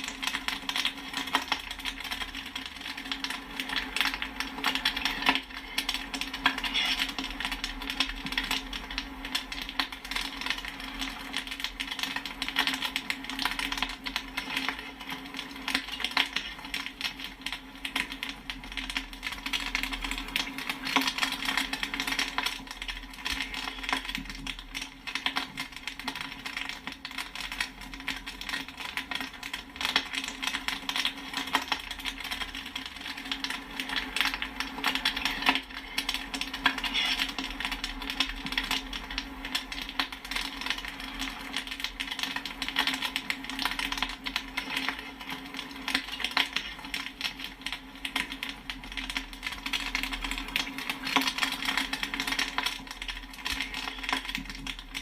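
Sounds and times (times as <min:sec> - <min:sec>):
popcorn kernels popping: 0:00.0 - 0:55.0.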